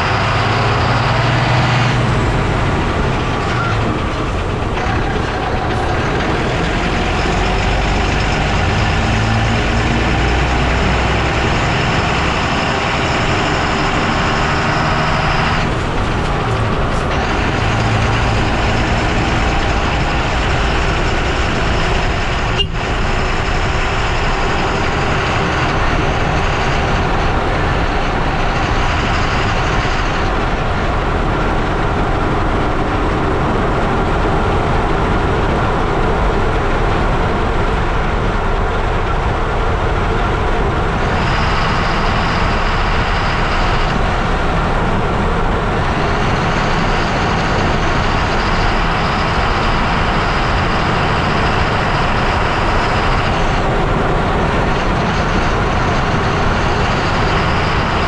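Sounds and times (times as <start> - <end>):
lorry rumble of tyres and engine: 0.0 - 58.0.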